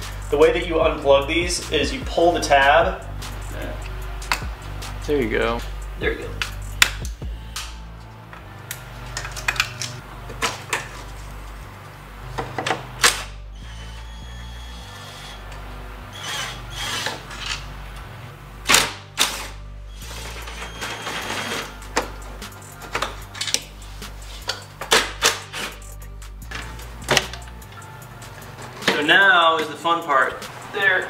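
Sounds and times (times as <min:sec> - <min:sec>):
quiet background music: 0:00.0 - 0:31.0.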